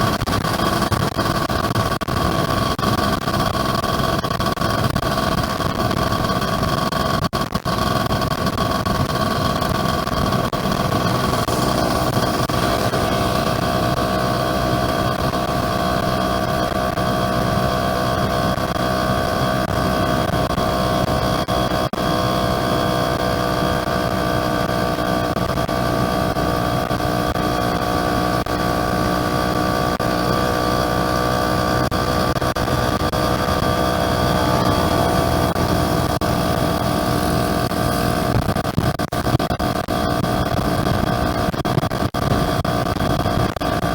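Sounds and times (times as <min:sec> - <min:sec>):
two-stroke motorcycle engine running: 0:00.0 - 0:43.9.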